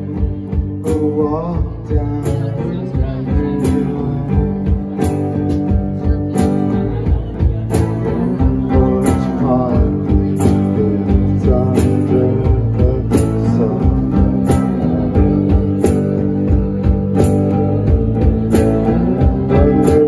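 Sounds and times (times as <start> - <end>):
bass guitar chords: 0.0 - 20.0
distorted electric guitars: 0.0 - 20.0
drum beat: 0.0 - 20.0.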